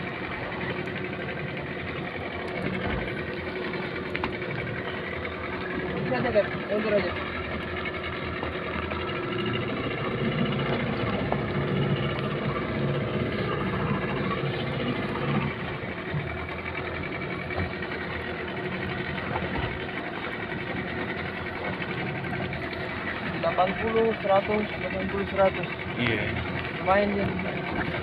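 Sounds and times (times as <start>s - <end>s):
boat engine idling with rattle: 0.0s - 28.0s.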